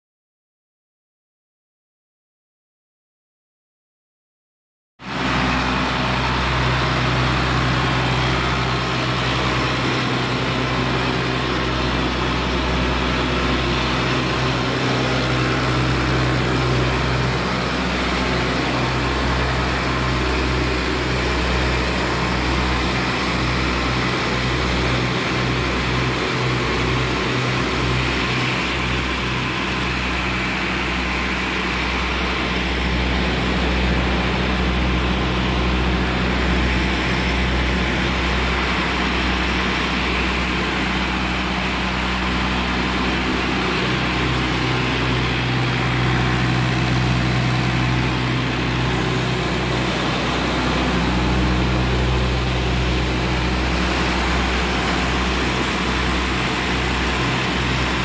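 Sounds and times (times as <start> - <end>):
diesel engine running under load: 5.0 - 58.0
water rushing from pump: 5.0 - 58.0.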